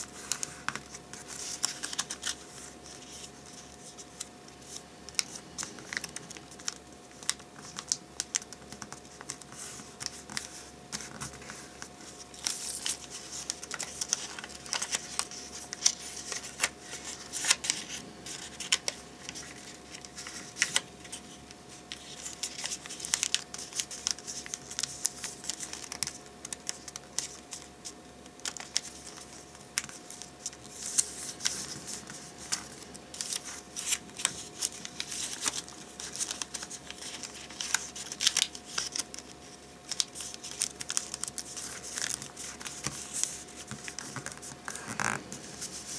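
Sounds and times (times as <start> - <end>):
paper rustling and creasing: 0.0 - 45.9.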